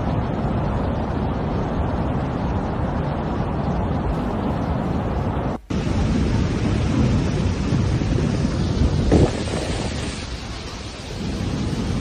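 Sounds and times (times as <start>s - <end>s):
fast-flowing floodwater: 0.0s - 12.0s
wind on microphone: 0.0s - 12.0s.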